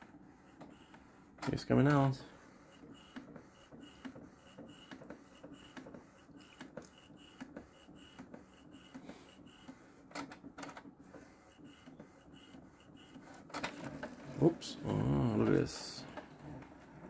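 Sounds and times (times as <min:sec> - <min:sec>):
brief louder printer noise: 0:00.0 - 0:17.0
printer mechanism ticking: 0:00.4 - 0:17.0.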